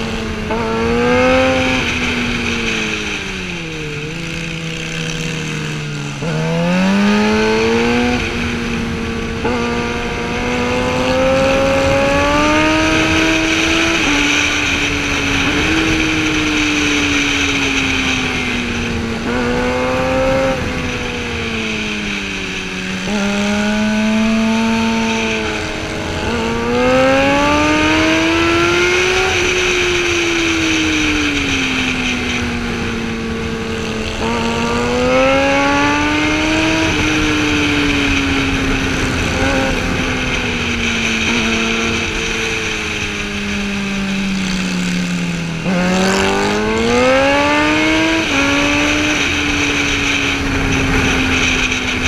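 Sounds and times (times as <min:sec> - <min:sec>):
motorcycle engine revving: 0:00.0 - 0:52.0
wind rush: 0:00.0 - 0:52.0.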